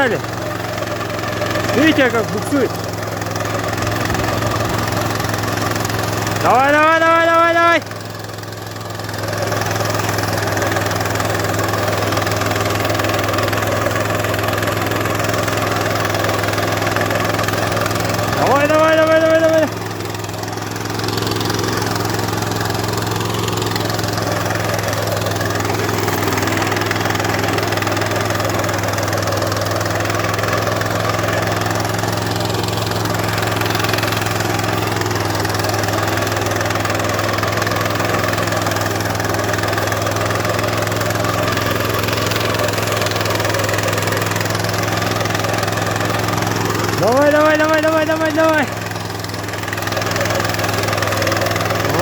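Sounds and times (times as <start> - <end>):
mower cutting grass: 0.0 - 52.0
petrol engine running: 0.0 - 52.0.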